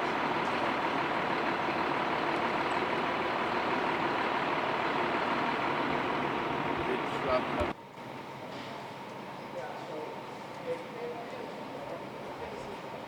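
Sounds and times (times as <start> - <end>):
fire engine running: 0.0 - 10.6.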